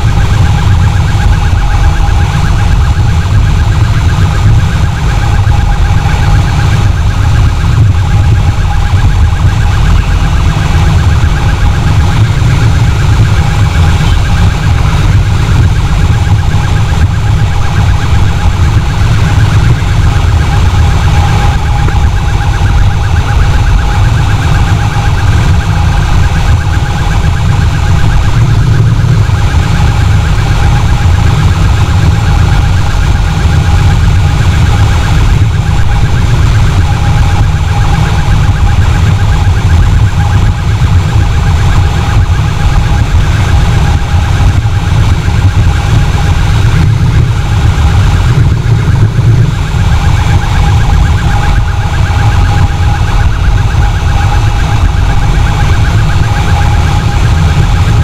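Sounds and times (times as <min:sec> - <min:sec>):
warbling electronic siren: 0:00.0 - 0:58.0
wind roar on microphone: 0:00.0 - 0:58.0.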